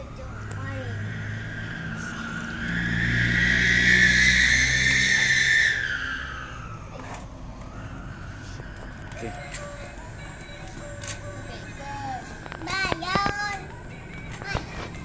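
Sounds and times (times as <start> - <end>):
vehicle passing by: 0.0 - 12.4.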